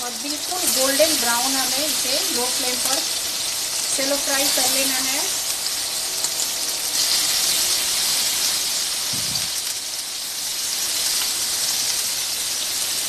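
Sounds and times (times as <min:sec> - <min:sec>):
cheese sizzling in hot oil: 0:00.0 - 0:13.0.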